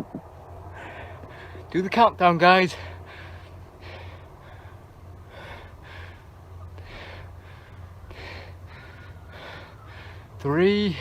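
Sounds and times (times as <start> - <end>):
steady low hum: 0.0 - 11.0
man breathing hard: 0.6 - 1.7, 2.7 - 11.0.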